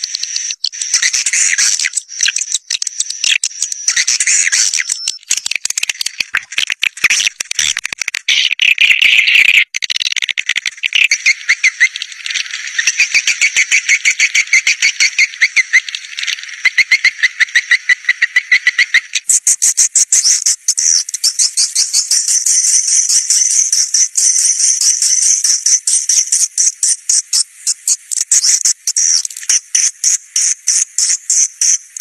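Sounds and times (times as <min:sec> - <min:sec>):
swiftlets chirping and twittering: 0:00.0 - 0:06.5, 0:10.9 - 0:27.4, 0:28.1 - 0:32.0.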